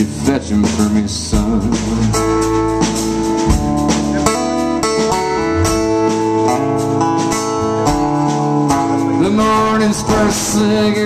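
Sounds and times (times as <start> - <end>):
electric guitar: 0.0 - 11.0
live band playing blues rock: 0.0 - 11.0.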